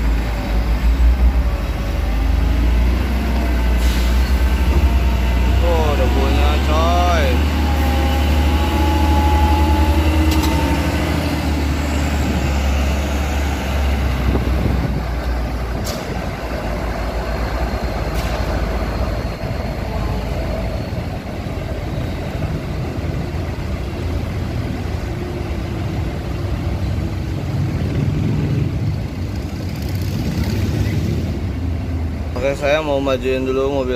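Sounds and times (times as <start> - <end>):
truck diesel engine passing: 0.0 - 33.9.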